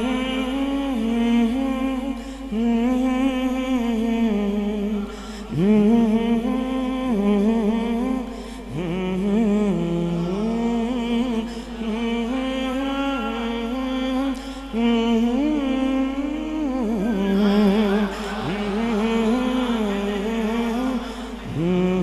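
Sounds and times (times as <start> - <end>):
man singing unaccompanied: 0.0 - 22.0.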